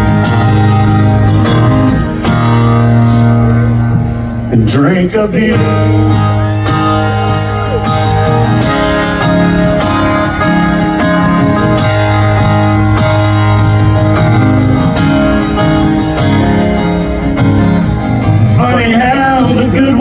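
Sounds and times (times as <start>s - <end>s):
country band playing slow ballad: 0.0s - 20.0s.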